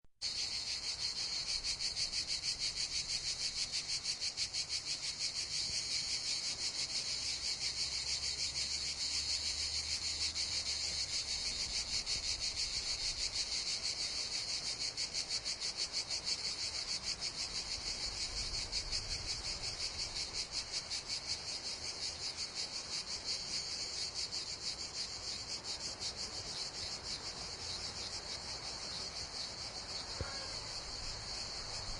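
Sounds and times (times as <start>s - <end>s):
cicadas buzzing: 0.2s - 31.9s.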